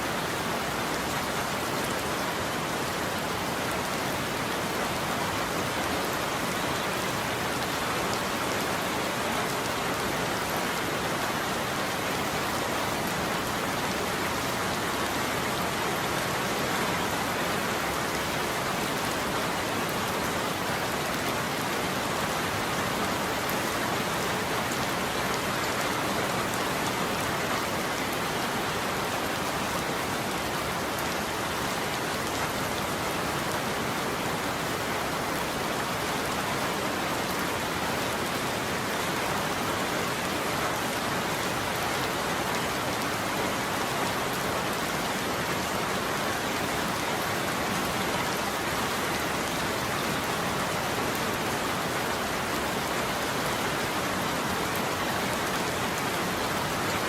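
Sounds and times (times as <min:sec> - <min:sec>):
rain pattering on a roof: 0:00.0 - 0:57.0.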